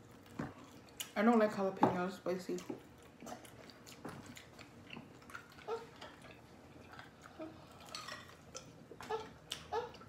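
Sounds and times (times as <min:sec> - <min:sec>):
chewing mouth noises: 0:00.0 - 0:01.2, 0:02.5 - 0:10.0.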